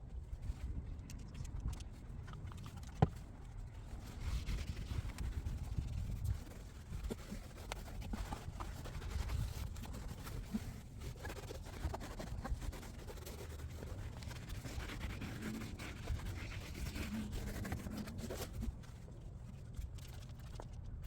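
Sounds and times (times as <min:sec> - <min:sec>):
cloth wiping a car: 0:01.9 - 0:19.6.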